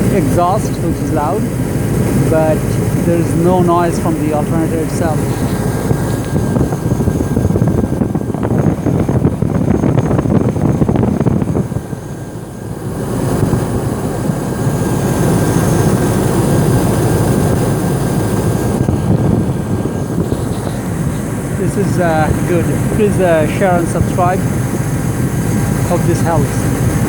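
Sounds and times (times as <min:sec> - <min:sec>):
engine exhaust rumble: 0:00.0 - 0:27.0.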